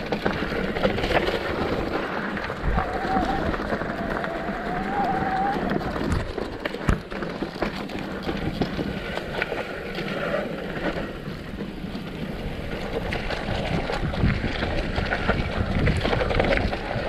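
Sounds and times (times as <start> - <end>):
bike clicks and rattles: 0.0 - 17.0
bike tyres on dirt and gravel: 0.0 - 17.0.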